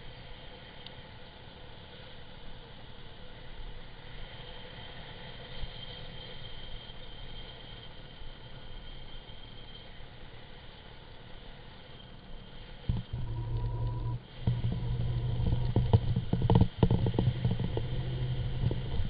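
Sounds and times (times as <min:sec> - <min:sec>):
rumble of tyres and wind: 0:00.0 - 0:19.0.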